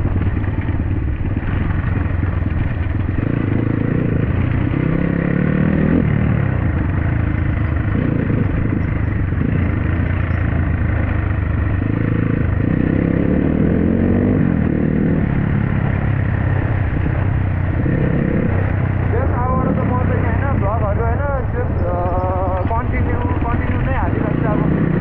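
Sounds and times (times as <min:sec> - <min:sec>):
dirt bike engine: 0:00.0 - 0:25.0.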